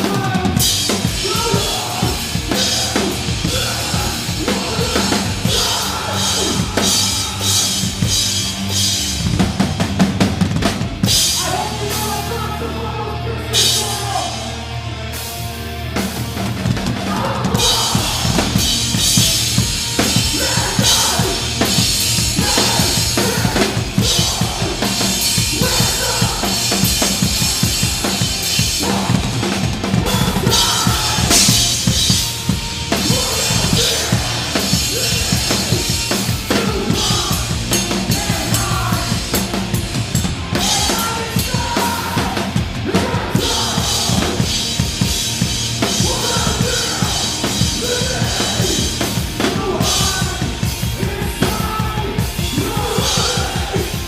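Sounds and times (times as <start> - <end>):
metal band playing: 0.0 - 54.0.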